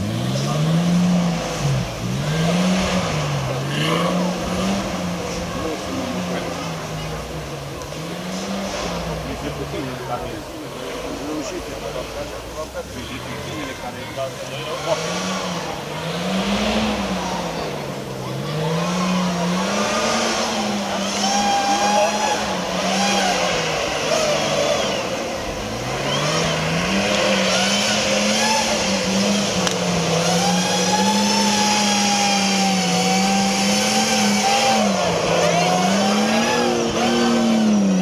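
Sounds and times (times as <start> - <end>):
engine revving under load: 0.0 - 38.0.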